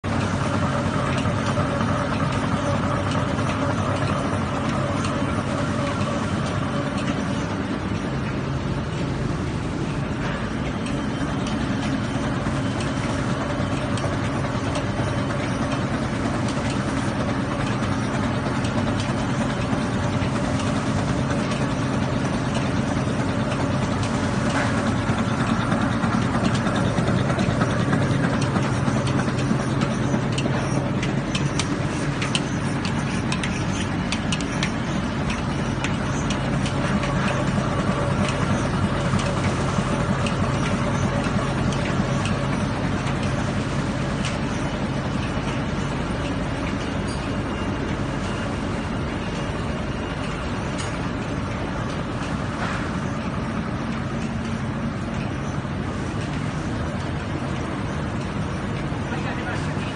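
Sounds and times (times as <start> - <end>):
printing press humming: 0.0 - 59.9.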